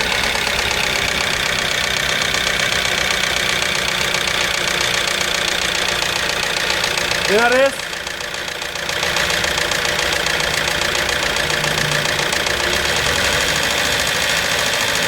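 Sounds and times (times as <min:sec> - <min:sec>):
engine metallic clatter: 0:00.0 - 0:15.0.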